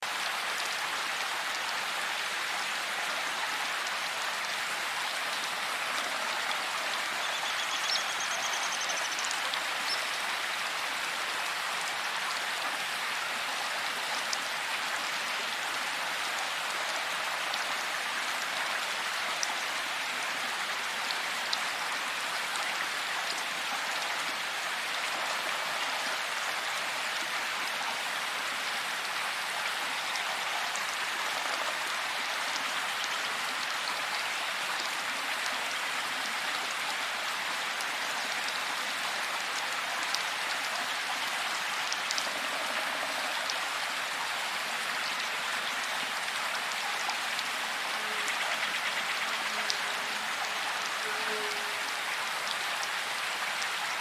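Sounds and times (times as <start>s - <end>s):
heavy rain in a forest: 0.0s - 54.0s.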